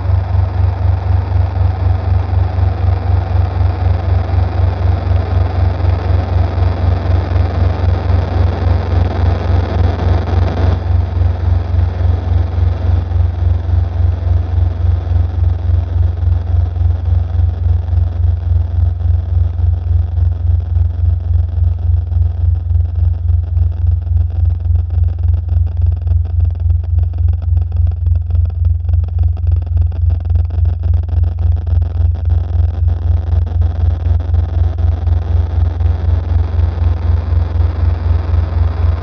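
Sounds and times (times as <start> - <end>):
deep pulsing bass drone: 0.0 - 39.0.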